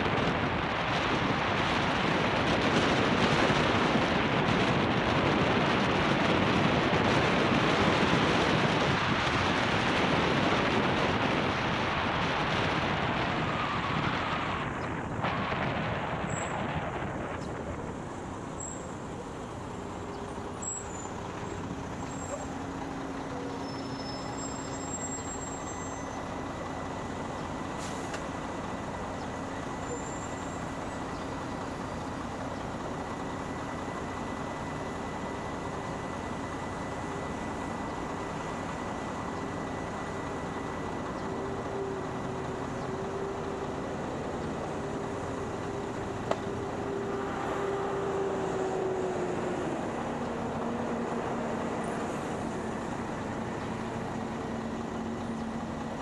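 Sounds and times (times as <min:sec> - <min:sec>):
road vehicle rumble: 0:00.0 - 0:56.0.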